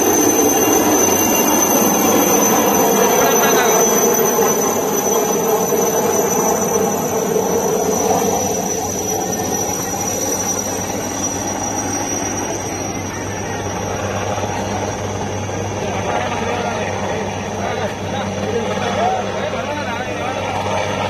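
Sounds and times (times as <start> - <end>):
helicopter flying overhead: 0.0 - 21.0.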